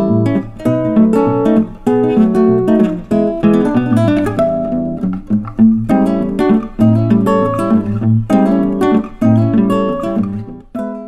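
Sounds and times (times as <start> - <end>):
acoustic guitar plucked notes: 0.0 - 11.0.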